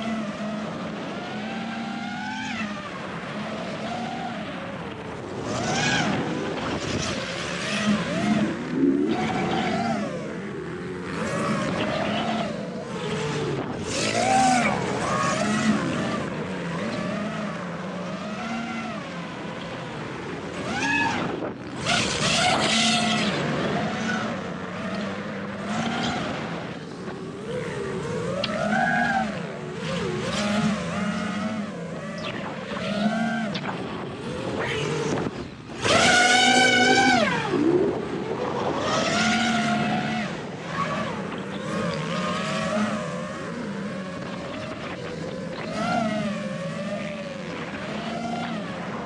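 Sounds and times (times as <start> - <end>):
drone motors whining: 0.0 - 49.0
motocross bike engines: 0.0 - 49.0.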